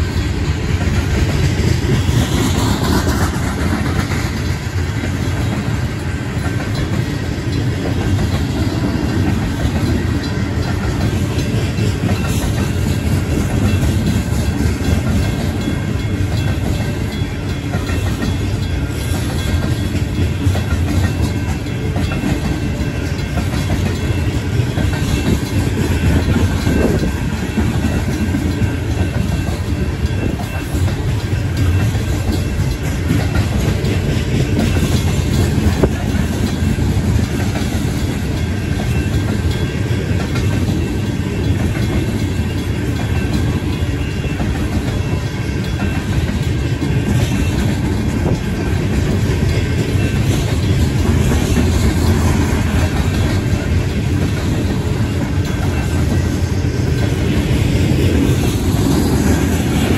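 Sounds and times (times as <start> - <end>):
faint crossing bells ringing: 0.0 - 59.9
train cars rumbling past: 0.0 - 59.9
wheels clicking over rail joints: 0.0 - 59.9.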